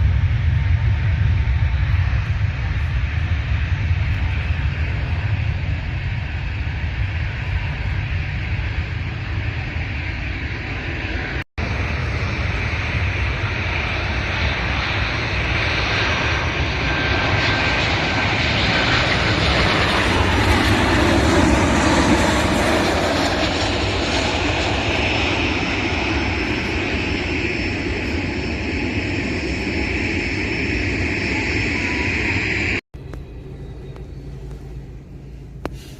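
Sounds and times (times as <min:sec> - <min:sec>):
airliner engines running: 0:00.0 - 0:35.9.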